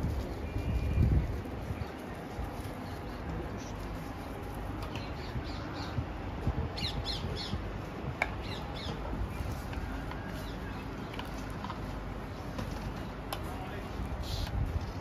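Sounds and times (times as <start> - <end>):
background hubbub: 0.0 - 15.0.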